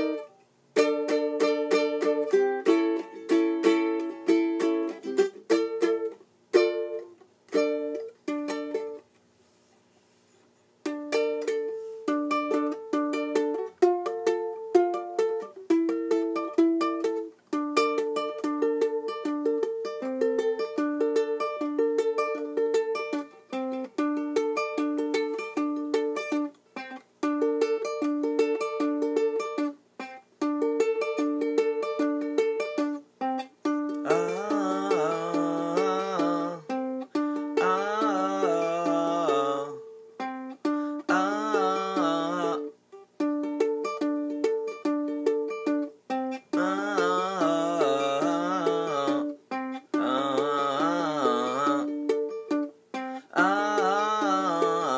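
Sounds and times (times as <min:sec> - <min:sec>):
ukulele picked and strummed: 0:00.0 - 0:09.2, 0:10.1 - 0:54.9.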